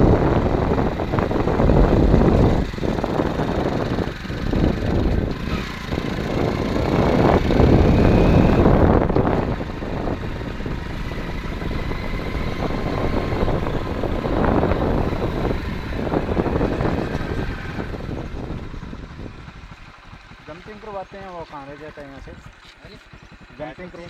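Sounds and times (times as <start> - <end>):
wind rushing over microphone: 0.0 - 21.2
vehicle engine running: 0.0 - 24.0.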